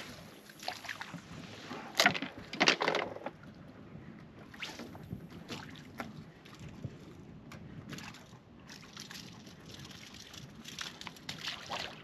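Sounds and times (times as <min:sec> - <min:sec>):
water lapping against a hull: 0:00.0 - 0:02.5, 0:03.2 - 0:12.0.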